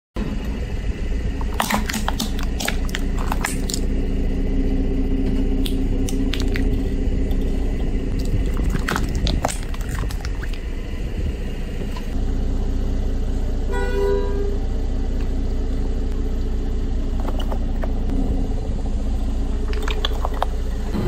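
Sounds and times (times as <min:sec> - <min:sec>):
car engine humming: 0:00.4 - 0:21.0.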